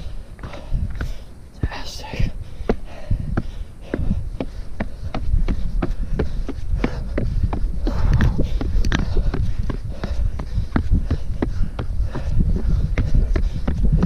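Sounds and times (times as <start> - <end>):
footsteps on trail: 0.0 - 14.0
steady low rumble: 0.0 - 14.0.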